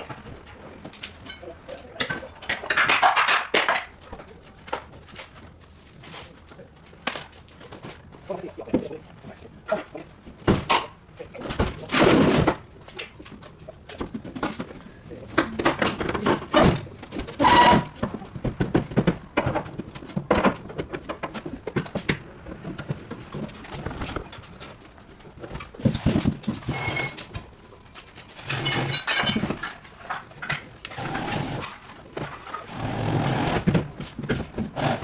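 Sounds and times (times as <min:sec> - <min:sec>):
knocks and clanks: 0:00.0 - 0:05.5, 0:09.7 - 0:35.0.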